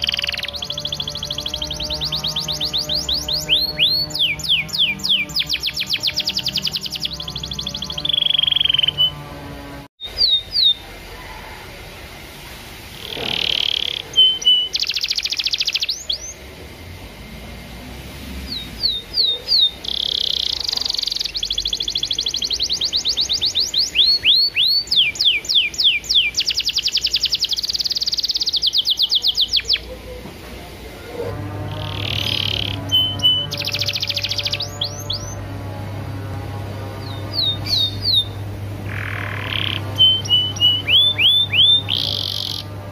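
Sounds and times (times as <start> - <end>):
canary singing trills: 0.0 - 11.5, 13.0 - 16.5, 18.4 - 30.2, 31.2 - 42.9.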